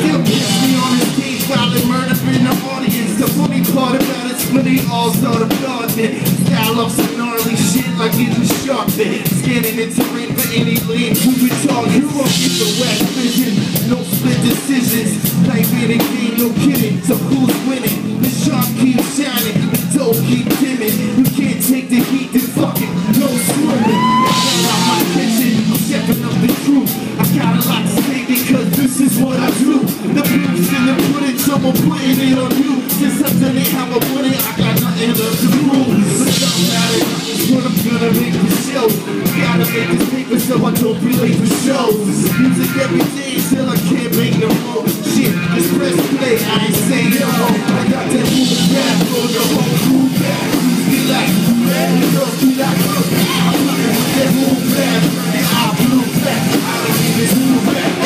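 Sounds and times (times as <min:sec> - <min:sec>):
drum kit beat: 0:00.0 - 0:58.0
guitar: 0:00.0 - 0:58.0
vocalist on microphone: 0:00.0 - 0:58.0.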